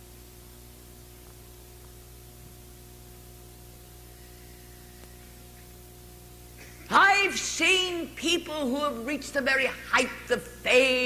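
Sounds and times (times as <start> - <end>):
low mains hum: 0.0 - 11.0.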